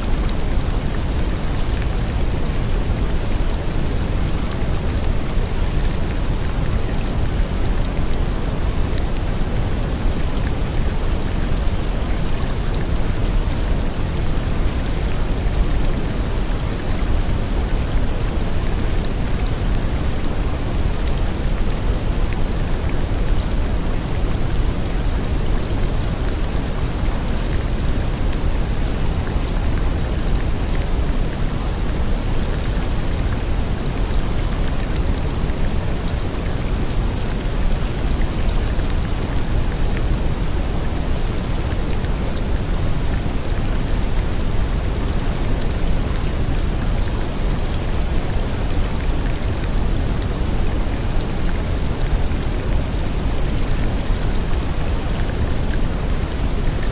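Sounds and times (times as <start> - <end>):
rain hiss: 0.0 - 56.9.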